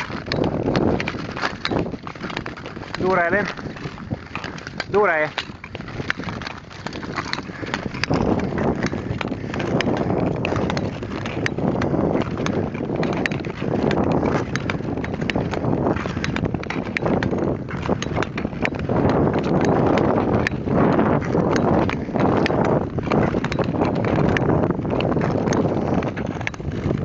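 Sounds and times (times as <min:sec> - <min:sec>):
ice skate blades scraping ice: 0:00.0 - 0:27.0.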